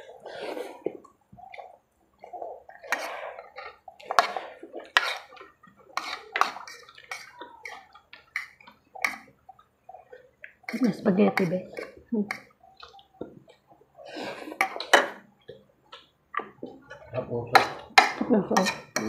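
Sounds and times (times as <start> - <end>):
noodles slurped and chewed: 0.0 - 18.0.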